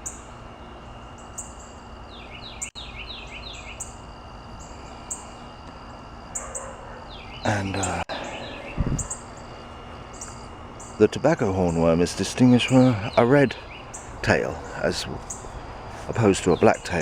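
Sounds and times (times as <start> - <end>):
garden birds chirping: 0.0 - 17.0.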